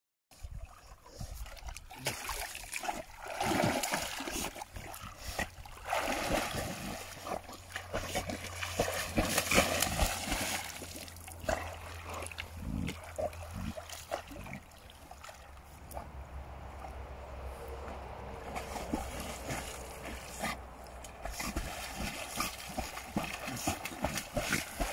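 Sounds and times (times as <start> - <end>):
dog swimming splashing water: 0.4 - 24.9.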